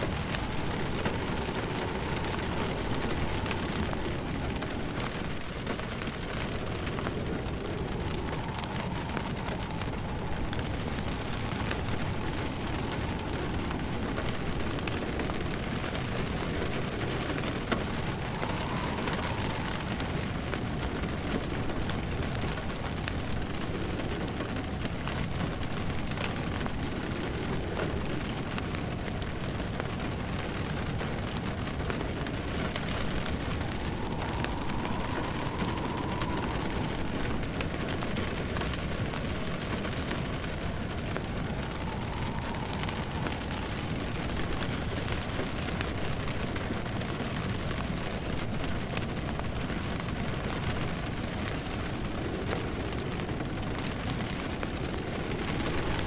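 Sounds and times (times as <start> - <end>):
steady rain falling: 0.0 - 56.0
wood fire crackling: 0.0 - 56.0.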